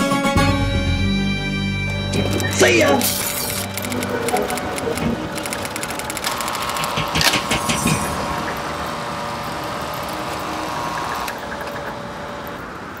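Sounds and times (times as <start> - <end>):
mechanical whir: 2.3 - 13.0.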